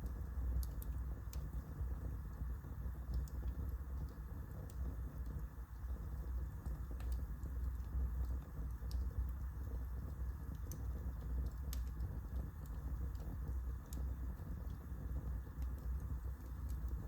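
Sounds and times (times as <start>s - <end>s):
burning wood crackles: 0.0s - 17.0s.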